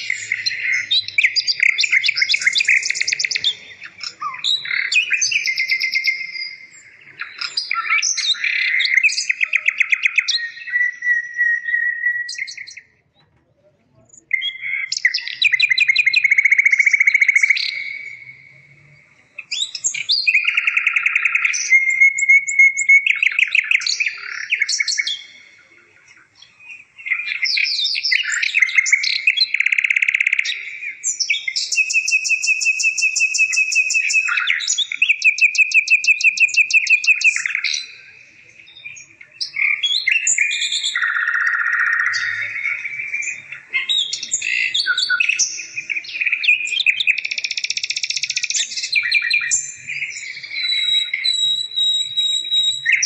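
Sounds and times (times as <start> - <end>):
bird trilling and chirping: 0.0 - 12.8, 14.1 - 53.0.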